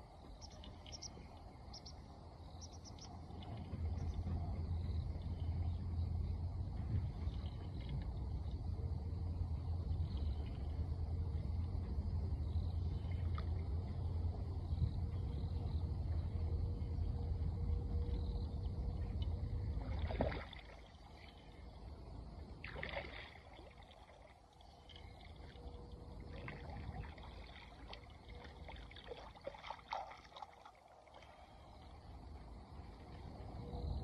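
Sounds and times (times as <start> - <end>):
low rumble: 0.0 - 29.9, 31.2 - 34.0
light splashes of water: 0.0 - 33.9.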